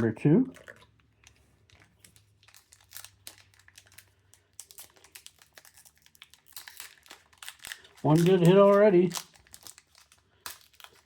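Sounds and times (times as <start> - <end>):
card wrapper crinkling: 1.2 - 11.0.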